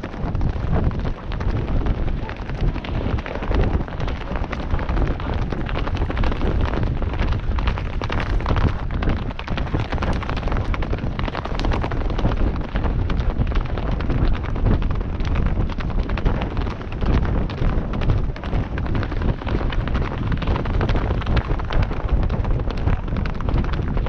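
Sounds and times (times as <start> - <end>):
galloping hoof thuds: 0.0 - 24.0
wind rumble on microphone: 0.0 - 24.0.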